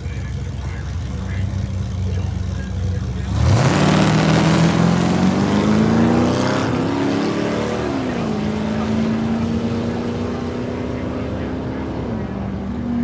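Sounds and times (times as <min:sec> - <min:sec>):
drag car engine accelerating: 0:00.0 - 0:13.0.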